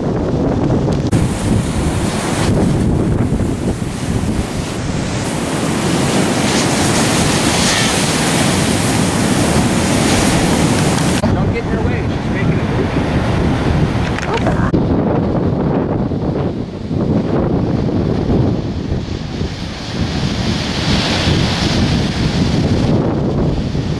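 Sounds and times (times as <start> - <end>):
ocean surf breaking: 0.0 - 23.9
wind buffeting the microphone: 0.0 - 23.9.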